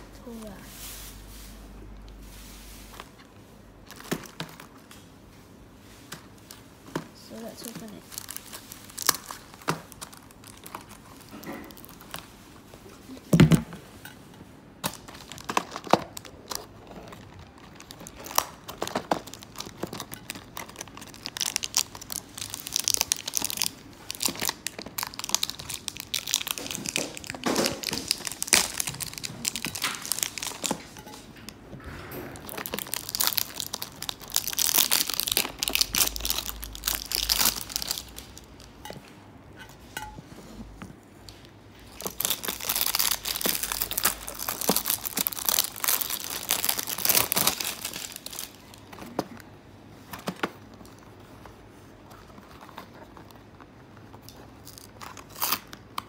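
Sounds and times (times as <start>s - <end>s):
plastic wrappers crinkling: 0.2s - 13.9s, 14.8s - 31.6s, 32.4s - 39.0s, 40.9s - 56.0s.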